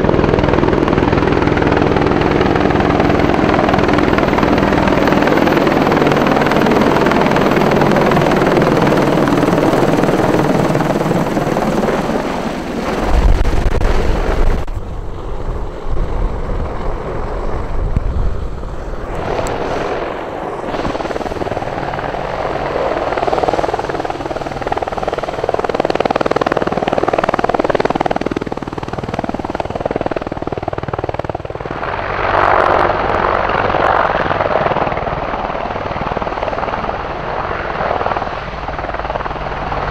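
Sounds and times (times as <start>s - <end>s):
rotor downwash buffeting microphone: 0.0s - 34.5s
helicopter rotor beating: 0.0s - 39.9s
turboshaft engine whine: 0.0s - 39.9s.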